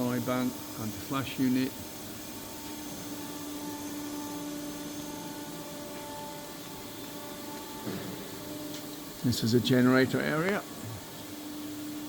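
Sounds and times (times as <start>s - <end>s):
machinery hum with hiss: 0.0s - 12.0s.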